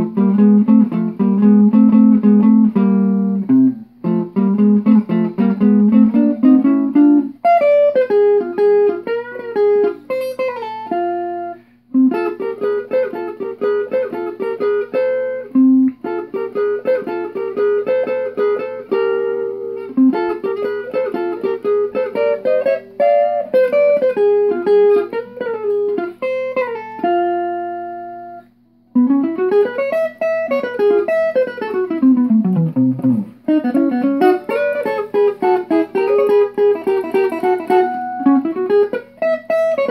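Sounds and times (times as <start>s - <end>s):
solo swing guitar: 0.0s - 39.9s.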